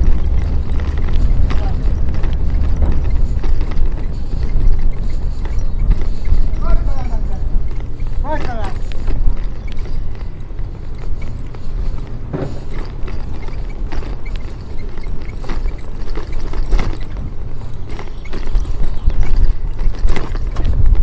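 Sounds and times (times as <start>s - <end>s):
bicycle rattling over paving stones: 0.0s - 21.0s
wind rumbling on microphone: 0.0s - 21.0s.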